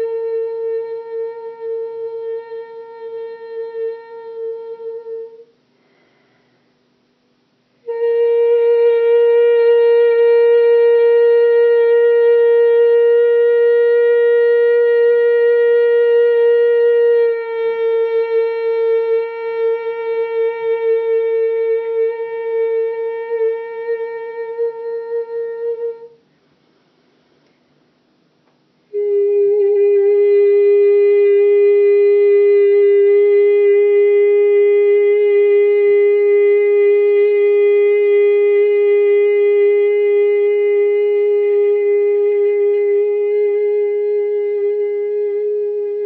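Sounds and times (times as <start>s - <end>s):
person singing long held tones: 0.0s - 5.6s, 7.8s - 26.3s, 28.9s - 46.0s.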